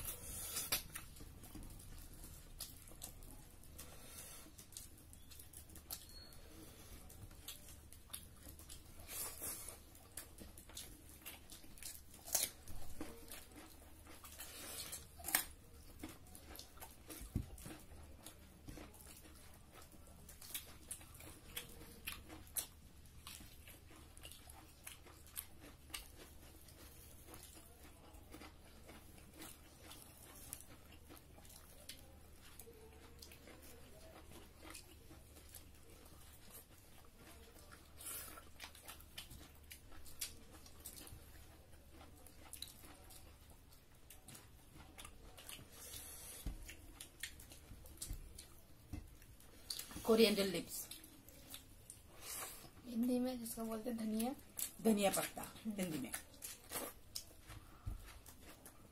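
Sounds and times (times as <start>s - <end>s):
chewing and crunching food: 0.0s - 58.9s.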